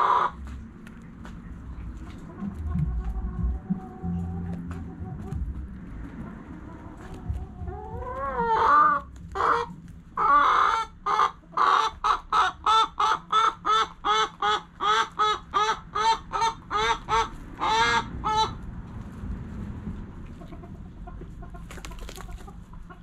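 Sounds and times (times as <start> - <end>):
chicken cackling: 0.0 - 0.5, 1.5 - 18.8, 20.1 - 23.0.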